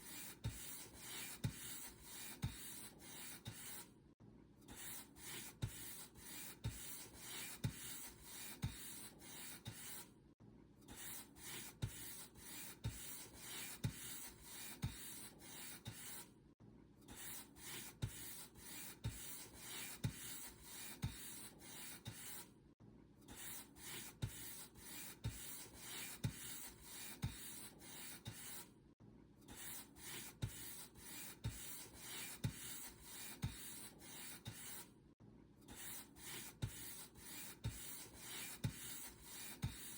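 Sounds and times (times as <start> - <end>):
paint brush strokes: 0.0 - 3.9, 4.8 - 10.1, 10.9 - 16.3, 17.2 - 22.5, 23.3 - 28.7, 29.5 - 34.9, 35.7 - 39.9.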